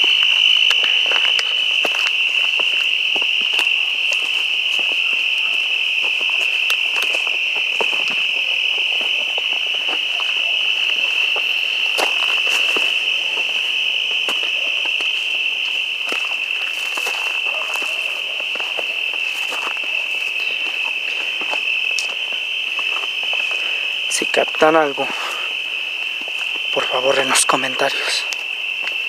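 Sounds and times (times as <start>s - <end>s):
footsteps on loose rocks: 0.0s - 23.6s, 24.6s - 27.7s
crickets trilling: 0.0s - 29.0s.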